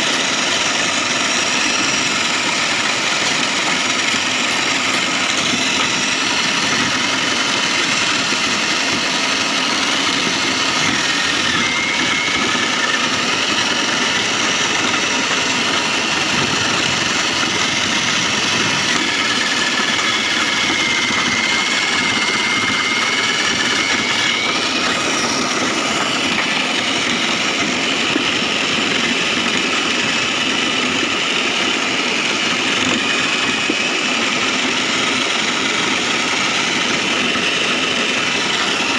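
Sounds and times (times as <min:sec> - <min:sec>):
foam shredding machine running: 0:00.0 - 0:38.9.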